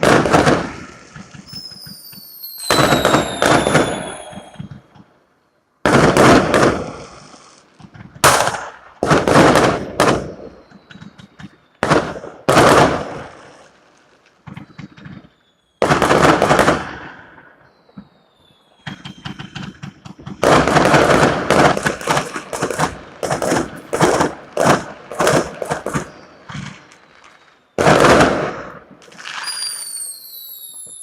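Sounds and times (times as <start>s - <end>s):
loud firework bangs: 0.0s - 5.1s, 5.8s - 13.7s, 14.4s - 31.0s
firecrackers crackling: 0.0s - 5.2s, 5.8s - 31.0s
falling whistling fireworks: 0.0s - 31.0s.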